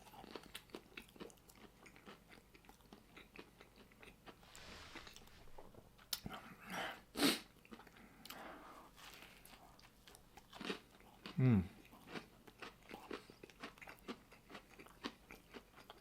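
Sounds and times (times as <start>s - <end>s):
chewing crunchy sandwich: 0.0s - 6.4s, 7.4s - 16.0s.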